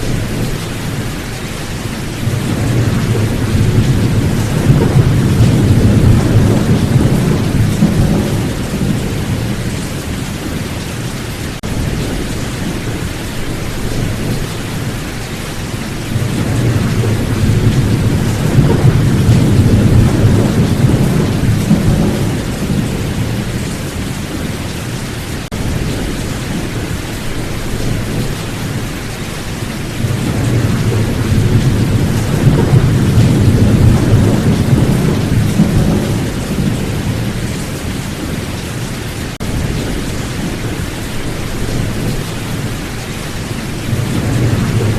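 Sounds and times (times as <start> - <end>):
rolling thunder: 0.0 - 38.6, 39.3 - 44.9
heavy rain: 0.0 - 44.9.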